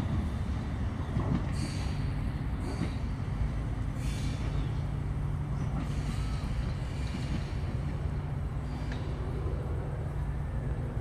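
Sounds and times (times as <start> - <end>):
tram humming on track: 0.0 - 11.0.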